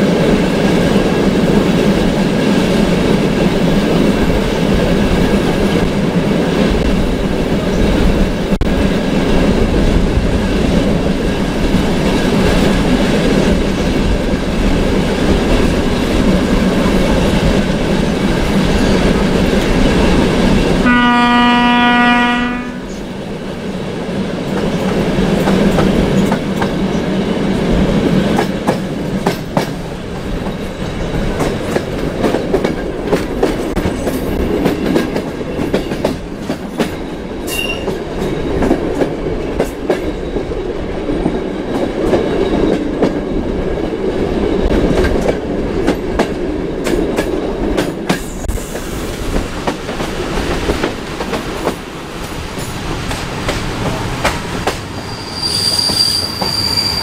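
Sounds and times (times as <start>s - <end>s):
train rumbling along track: 0.0s - 57.0s.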